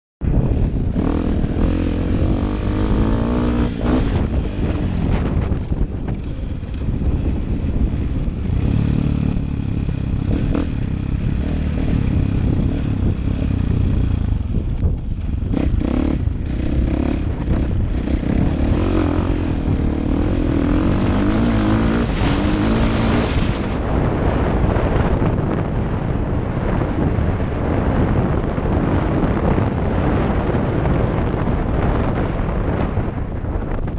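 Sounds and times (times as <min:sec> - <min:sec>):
low rumble: 0:00.2 - 0:33.9
motorcycle engine revving: 0:00.4 - 0:33.9.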